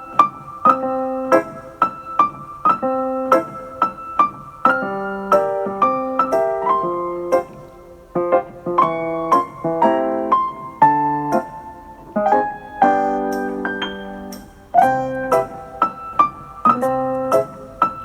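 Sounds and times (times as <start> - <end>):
gentle piano chords: 0.0 - 18.0.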